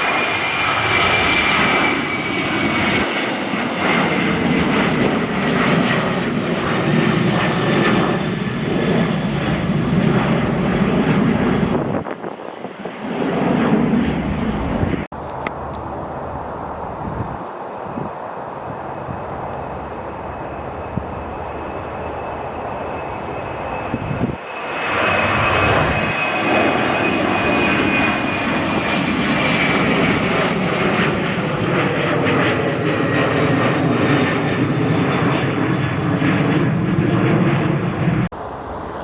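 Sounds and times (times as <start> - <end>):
jet engine deep rumble: 0.0 - 39.0
jet engine whine: 0.0 - 39.0.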